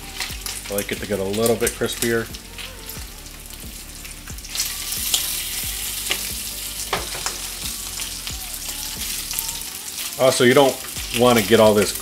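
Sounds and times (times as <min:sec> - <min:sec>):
bacon sizzling in a grill pan: 0:00.0 - 0:12.0.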